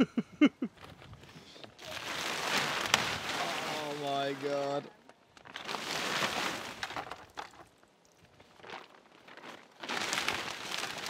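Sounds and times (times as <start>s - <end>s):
rustling through dry weeds: 0.8s - 11.0s.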